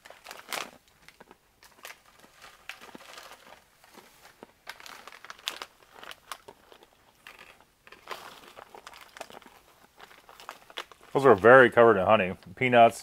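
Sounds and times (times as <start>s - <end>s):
foil snack bag crinkling: 0.0s - 12.4s
nuts being chewed: 0.4s - 11.4s.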